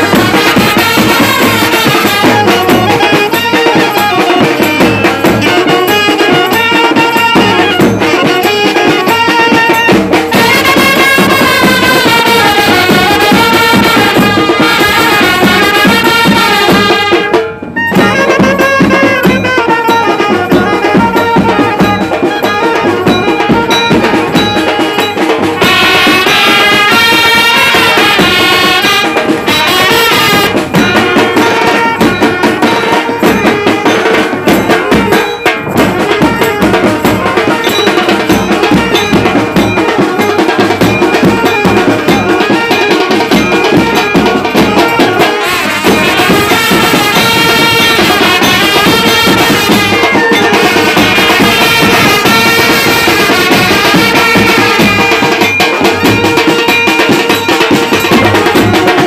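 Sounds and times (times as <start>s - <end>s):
bass drums and snare drums: 0.0s - 59.0s
brass band playing: 0.0s - 59.0s
trumpets playing melody: 0.0s - 59.0s.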